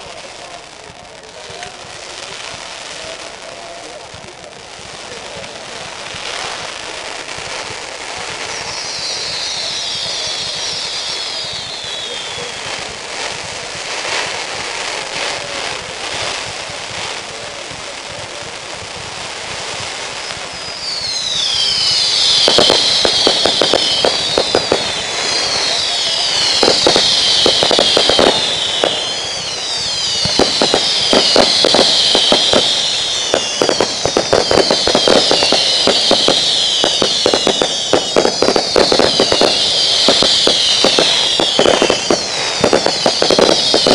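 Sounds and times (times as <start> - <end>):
crackling firework bangs: 0.0 - 43.9
falling firework whistles: 5.0 - 43.9.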